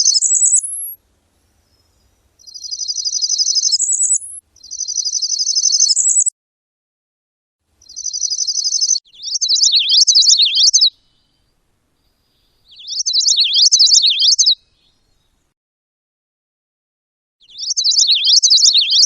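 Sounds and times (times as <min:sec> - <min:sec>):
songbird singing: 0:00.0 - 0:06.3, 0:07.7 - 0:15.6, 0:17.4 - 0:19.0.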